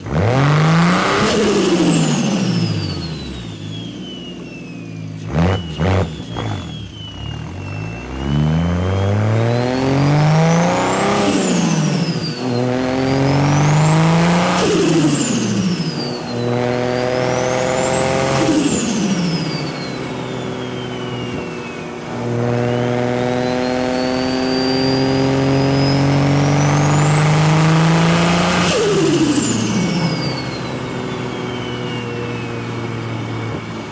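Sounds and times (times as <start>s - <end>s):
car engine revving: 0.0s - 33.9s
turbo whistle: 2.0s - 33.7s.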